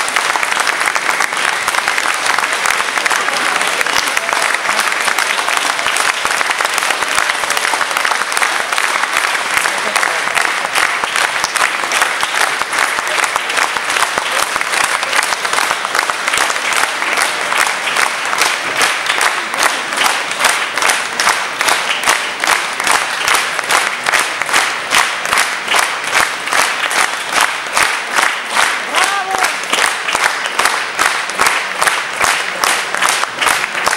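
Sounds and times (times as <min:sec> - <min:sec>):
audience applauding: 0:00.0 - 0:33.9
rhythmic clapping in unison: 0:00.0 - 0:33.9.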